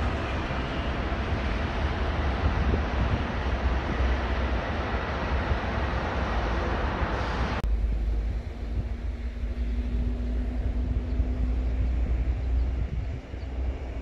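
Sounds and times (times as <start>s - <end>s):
road traffic rushing: 0.0s - 14.0s
wind buffeting microphone: 0.0s - 14.0s.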